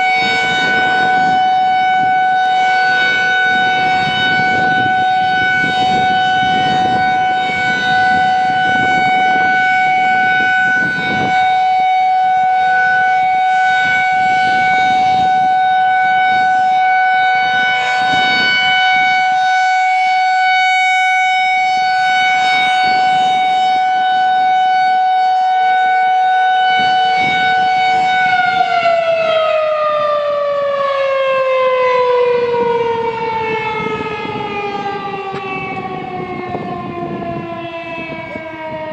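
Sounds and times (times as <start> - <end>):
electromechanical warning siren: 0.0 - 38.9.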